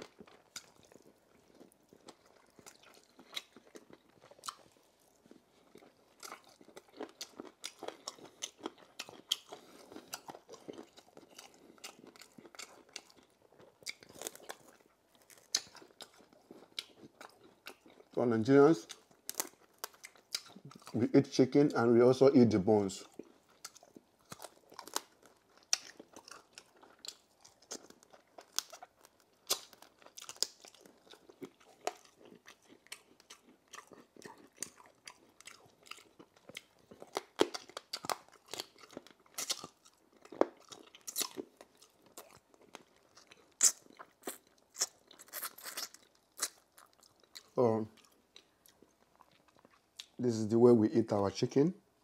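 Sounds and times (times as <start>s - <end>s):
person chewing chicken bones: 0.0s - 21.3s, 23.0s - 50.2s.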